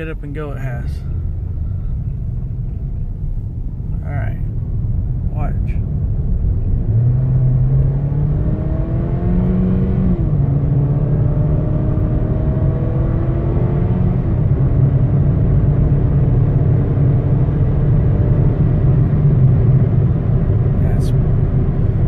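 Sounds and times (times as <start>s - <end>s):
car engine accelerating: 0.0s - 22.0s
road rumble: 0.0s - 22.0s.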